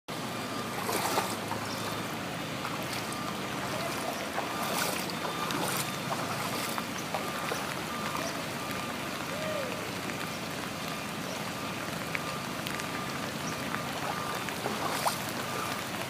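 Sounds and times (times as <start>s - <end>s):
floodwater rushing: 0.1s - 16.0s
water splashes: 0.1s - 16.0s.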